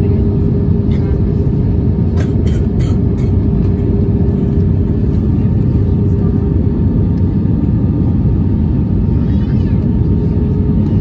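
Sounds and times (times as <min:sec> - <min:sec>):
jet engine rumble and airflow: 0:00.0 - 0:11.0.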